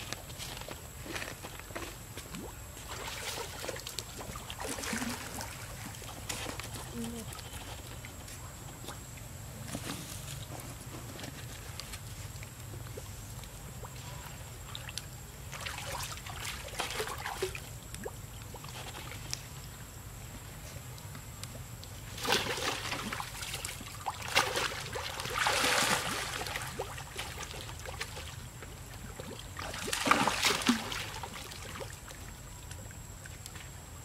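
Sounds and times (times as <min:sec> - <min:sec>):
water splashing in a pool: 0:00.0 - 0:09.1, 0:11.5 - 0:20.1, 0:20.9 - 0:34.0.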